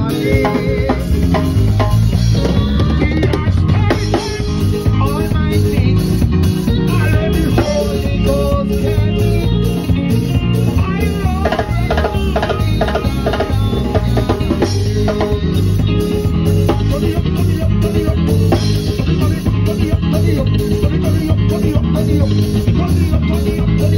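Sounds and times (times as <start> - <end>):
drum kit: 0.0 - 23.9
electric bass guitar: 0.0 - 23.9
keyboard melody: 0.0 - 23.9.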